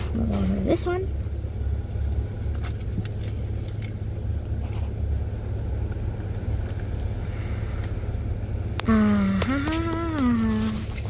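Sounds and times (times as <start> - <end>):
car engine rumbling inside cabin: 0.0 - 11.0.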